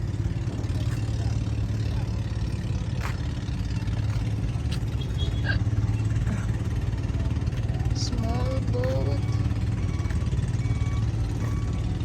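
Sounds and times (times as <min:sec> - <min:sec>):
ship diesel engine hum: 0:00.0 - 0:12.0.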